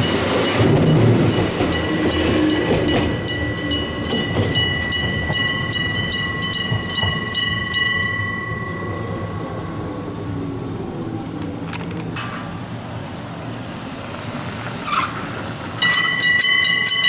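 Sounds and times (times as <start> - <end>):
passing train rumble: 0.0 - 17.0
railway crossing bell ringing: 0.0 - 17.0.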